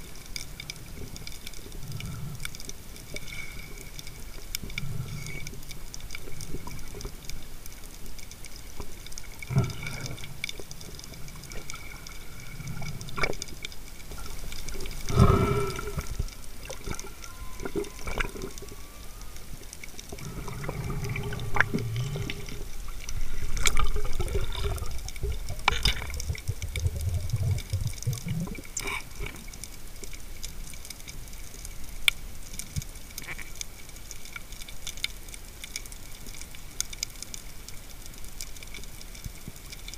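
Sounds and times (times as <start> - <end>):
muffled underwater water rushing: 0.0 - 39.9.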